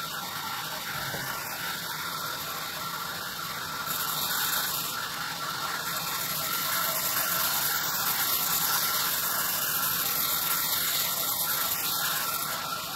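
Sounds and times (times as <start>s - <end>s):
faint steady whine: 0.0s - 12.9s.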